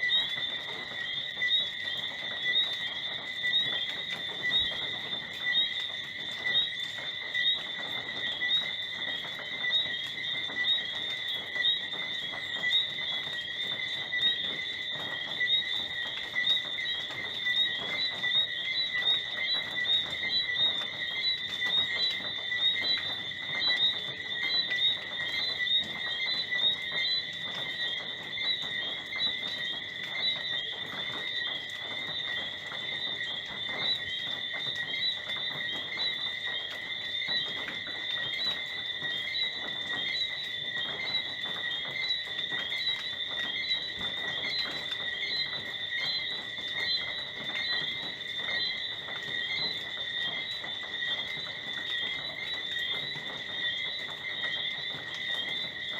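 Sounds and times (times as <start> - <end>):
crickets chirping: 0.0 - 55.9
frogs trilling: 0.0 - 55.9.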